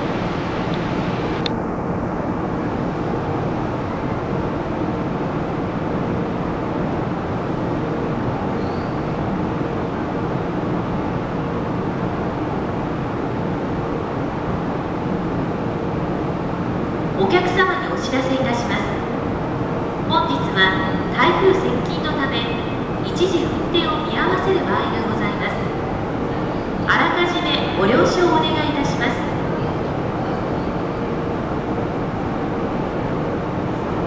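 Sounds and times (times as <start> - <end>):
faint constant hum: 0.0 - 34.0
rumbling background noise: 0.0 - 34.0.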